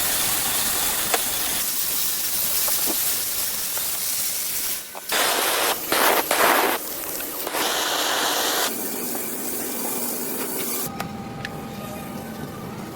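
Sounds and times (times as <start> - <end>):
hissing spray: 0.0 - 10.9.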